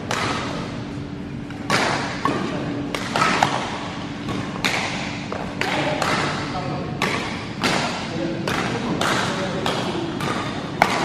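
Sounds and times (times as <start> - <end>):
rackets hitting shuttlecock: 0.0 - 11.0.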